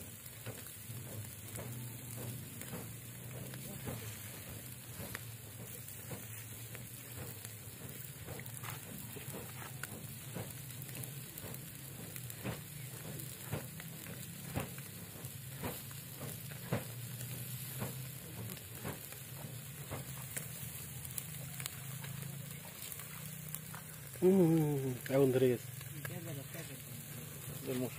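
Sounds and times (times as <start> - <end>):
charcoal crackles and pops: 0.0 - 27.9
fish sizzling on grill: 0.0 - 27.9.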